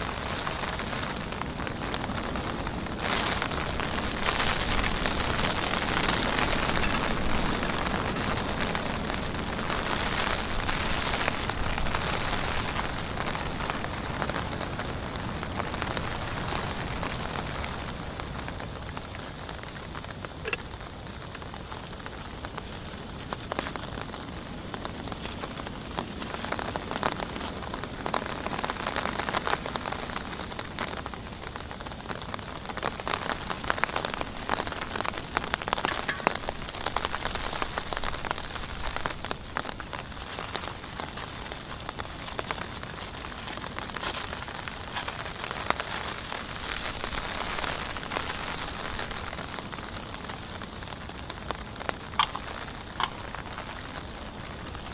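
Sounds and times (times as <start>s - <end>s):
heavy rain falling: 0.0s - 54.9s
rain drops ticking: 0.0s - 54.9s.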